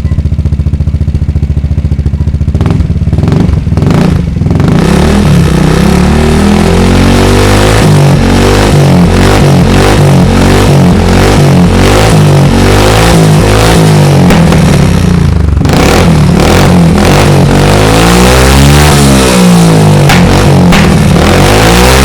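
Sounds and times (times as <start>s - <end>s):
scooter engine revving: 0.0s - 22.0s.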